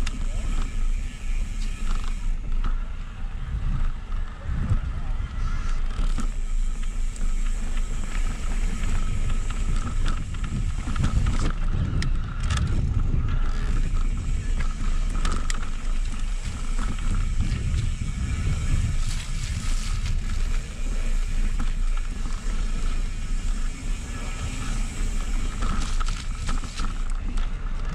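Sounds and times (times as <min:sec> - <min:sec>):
bike clicks and rattles: 0:00.0 - 0:27.9
wind buffeting microphone: 0:00.0 - 0:27.9.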